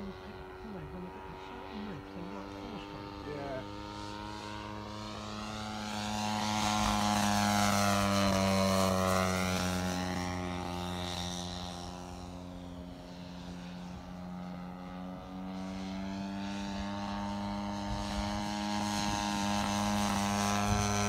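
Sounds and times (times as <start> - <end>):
model plane propeller engine: 0.0 - 21.0.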